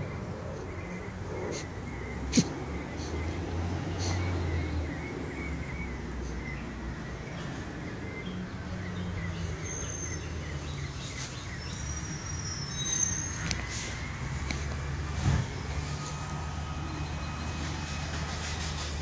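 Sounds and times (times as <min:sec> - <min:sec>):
low rumble of distant traffic: 0:00.0 - 0:19.0
small birds chirping: 0:00.0 - 0:19.0.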